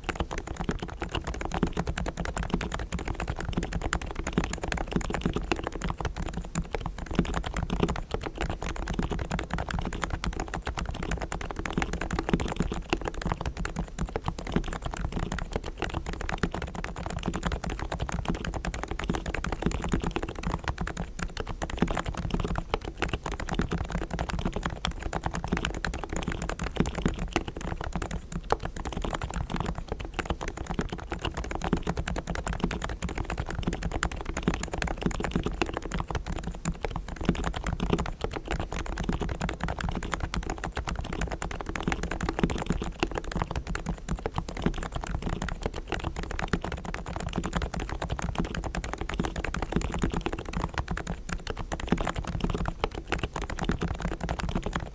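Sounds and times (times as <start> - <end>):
soft keyboard typing: 0.0 - 54.9.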